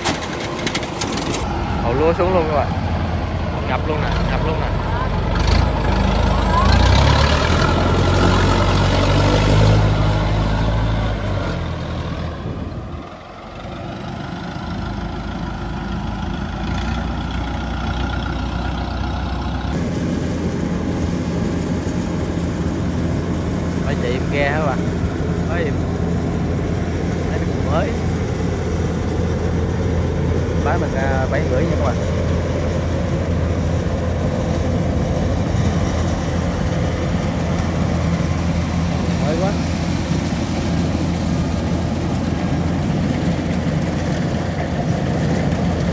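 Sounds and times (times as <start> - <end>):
harvester engine running: 0.0 - 45.9.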